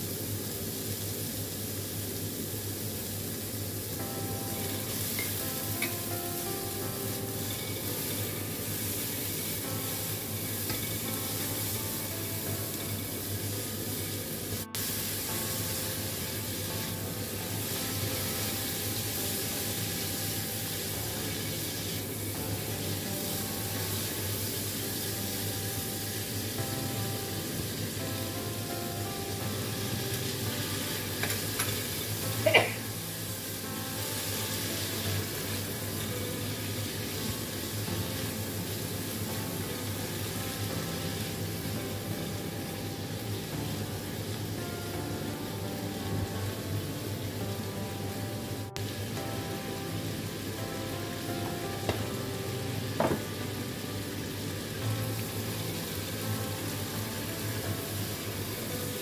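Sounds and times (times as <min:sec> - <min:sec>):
chillies frying in hot oil: 0:00.0 - 0:59.0.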